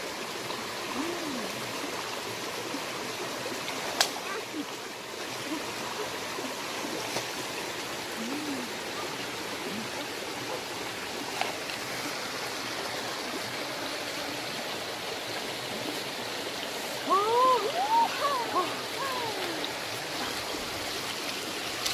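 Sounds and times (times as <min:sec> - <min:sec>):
rocky stream running: 0:00.0 - 0:21.9.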